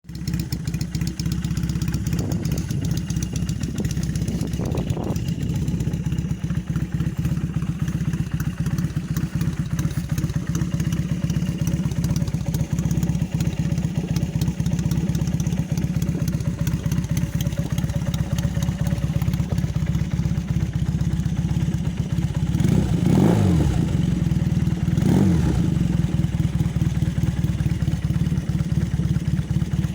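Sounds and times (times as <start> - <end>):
motorcycle engine idling: 0.0 - 29.9.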